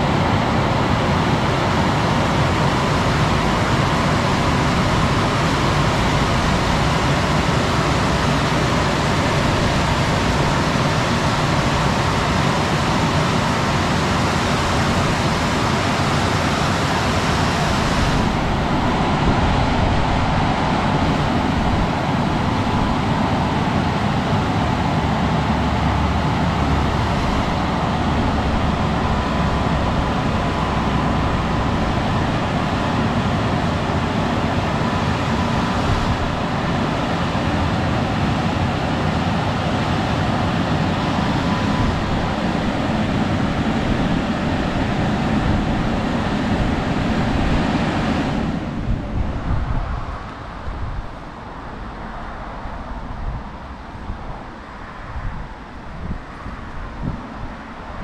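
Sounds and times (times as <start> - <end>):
car wash blowers rushing: 0.0 - 58.0.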